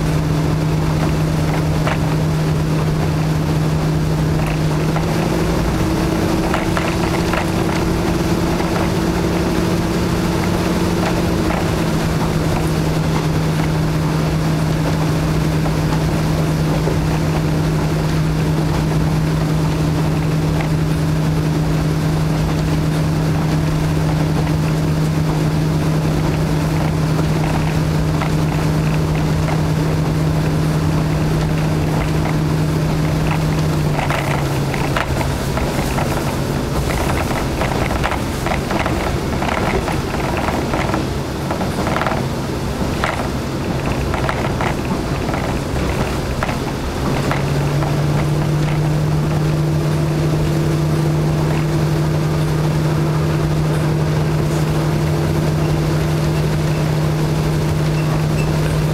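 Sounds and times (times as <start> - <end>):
diesel engine droning: 0.0 - 58.9
wheel and rail noise: 0.0 - 58.9.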